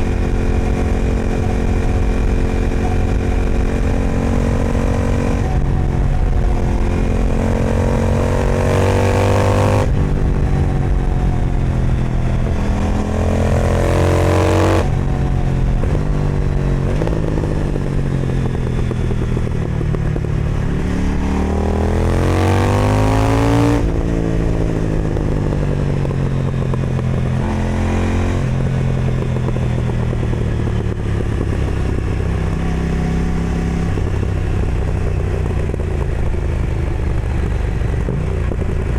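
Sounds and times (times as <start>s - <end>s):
motorcycle engine accelerating: 0.0s - 38.9s
wind rush on microphone: 0.0s - 38.9s.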